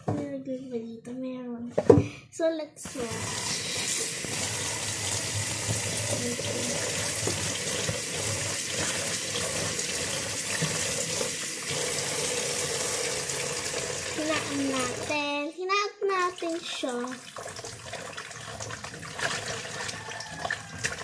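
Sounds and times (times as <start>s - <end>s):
vegetables washed by hand: 2.8s - 15.4s, 16.0s - 21.0s
tap water running into sink: 2.9s - 15.2s, 16.1s - 21.0s.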